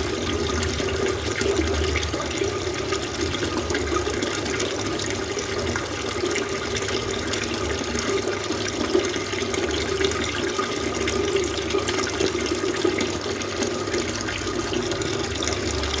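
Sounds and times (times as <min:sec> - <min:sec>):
water fountain splashing: 0:00.0 - 0:16.0.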